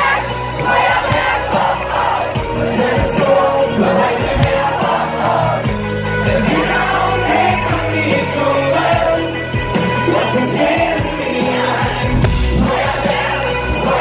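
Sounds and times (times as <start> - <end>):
live pop music over speakers: 0.0 - 14.0.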